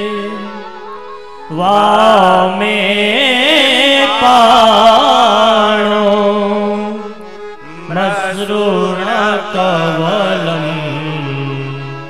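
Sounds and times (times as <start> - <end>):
man singing a devotional chant: 0.0 - 12.0.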